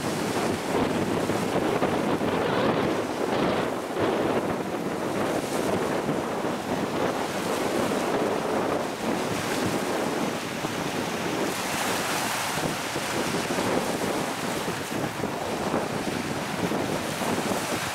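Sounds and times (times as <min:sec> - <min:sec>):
gusty wind buffeting microphone: 0:00.0 - 0:17.9
rough water: 0:00.0 - 0:17.9.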